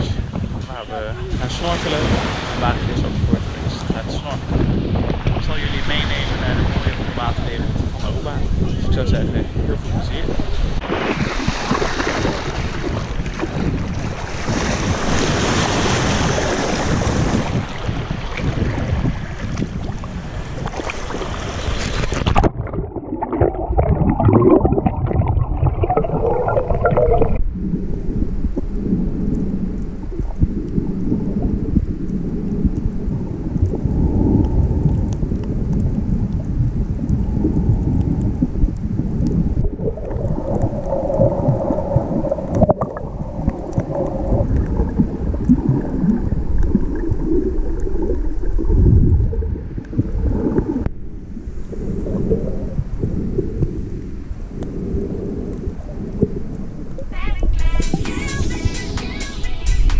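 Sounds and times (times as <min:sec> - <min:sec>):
underwater rumble: 0:00.0 - 0:57.9
small waves washing: 0:00.0 - 0:59.0
faint underwater crackling: 0:00.0 - 0:59.2.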